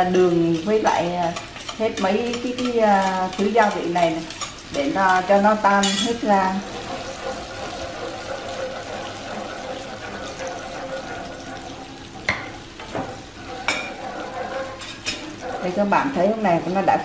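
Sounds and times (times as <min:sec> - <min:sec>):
sauce simmering and sizzling in a pan: 0:00.0 - 0:16.9.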